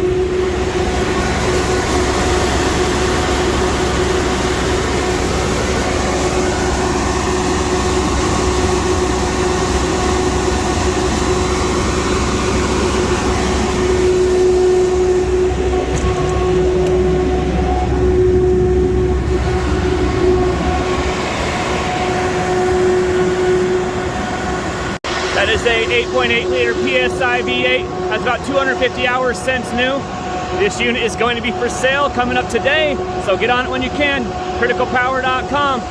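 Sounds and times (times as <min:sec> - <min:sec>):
generator engine humming: 0:00.0 - 0:35.9.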